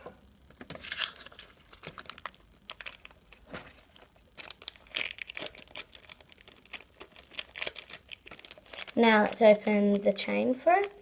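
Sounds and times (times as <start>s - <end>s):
plastic wrappers crinkling: 0.7s - 11.0s.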